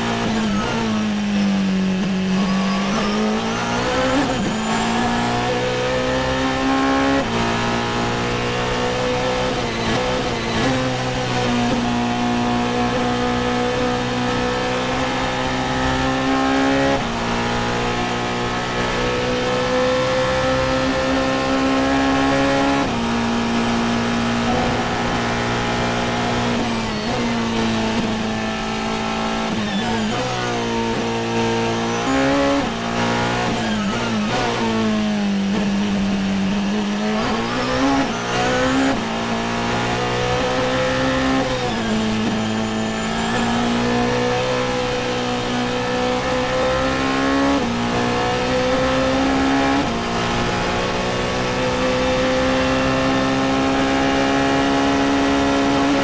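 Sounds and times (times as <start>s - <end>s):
race car engine shifting gears: 0.0s - 56.0s.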